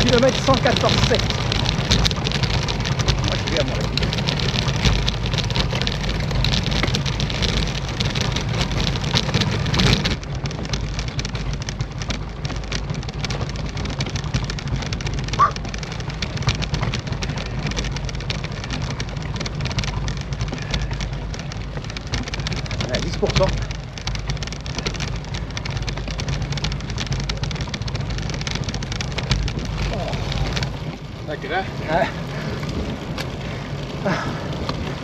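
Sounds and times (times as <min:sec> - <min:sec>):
bike tyre road noise: 0:00.0 - 0:35.0.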